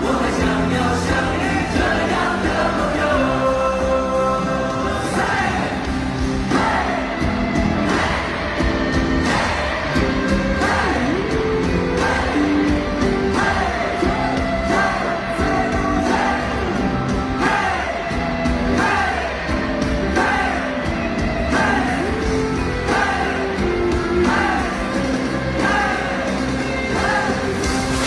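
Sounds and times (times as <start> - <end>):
crowd singing and yelling: 0.0 - 28.0
live pop-rock concert music: 0.0 - 28.0.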